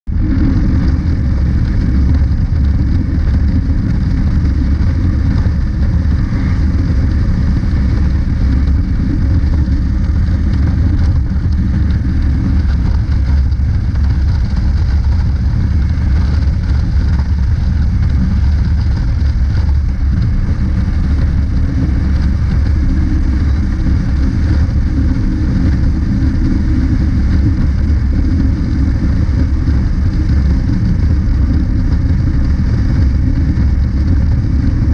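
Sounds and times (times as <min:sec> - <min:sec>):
motorcycle engine drone: 0:00.0 - 0:34.9
wind rushing on microphone: 0:00.0 - 0:34.9.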